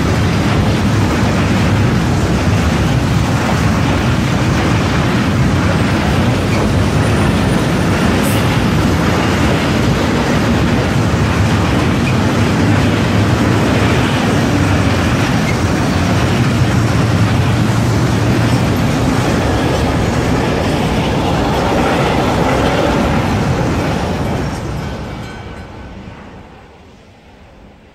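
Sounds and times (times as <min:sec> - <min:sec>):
freight train rumbling past: 0:00.0 - 0:27.9.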